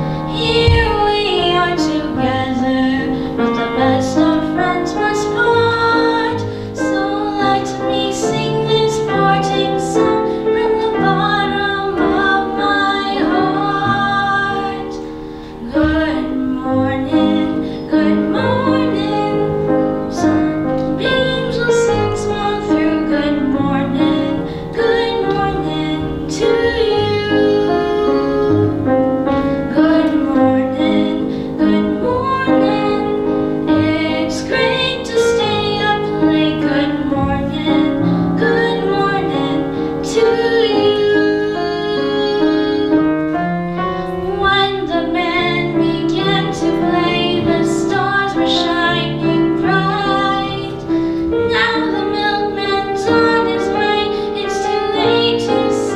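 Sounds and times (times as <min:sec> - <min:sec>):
girl singing into microphone: 0:00.0 - 0:55.9
grand piano accompaniment: 0:00.0 - 0:55.9.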